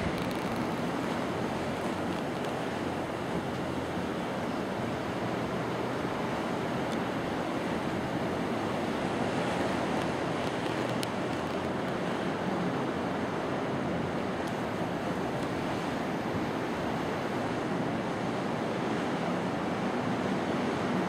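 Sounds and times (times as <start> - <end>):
surf rushing: 0.0 - 21.0
wind on microphone: 0.0 - 21.0.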